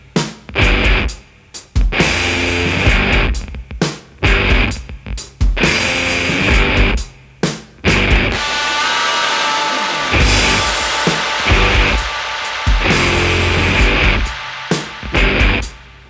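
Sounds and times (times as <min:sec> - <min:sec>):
rock music with drums and guitar: 0:00.0 - 0:16.0.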